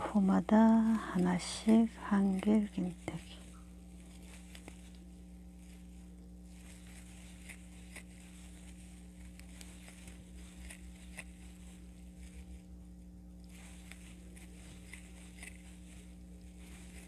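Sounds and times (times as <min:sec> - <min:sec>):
crochet hook rustling yarn: 0:00.0 - 0:03.4, 0:04.0 - 0:05.0, 0:05.6 - 0:12.6, 0:13.4 - 0:17.0
low hum: 0:00.0 - 0:17.0.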